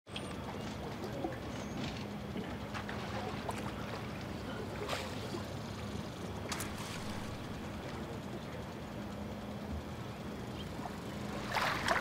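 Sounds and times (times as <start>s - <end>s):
gentle water sounds: 0.1s - 8.9s, 9.7s - 12.0s
faint low hum: 0.1s - 12.0s.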